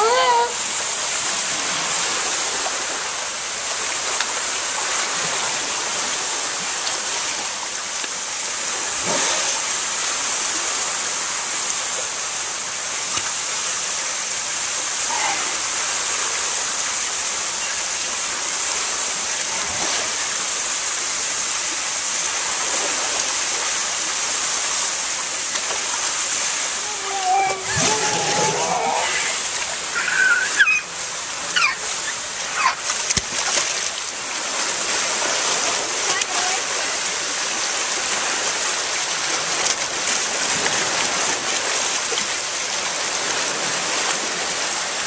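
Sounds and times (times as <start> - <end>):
running water rushing: 0.0 - 45.0.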